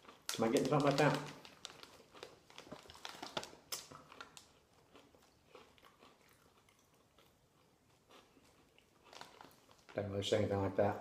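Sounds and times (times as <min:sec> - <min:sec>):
crunchy snack chewing: 0:00.0 - 0:10.0.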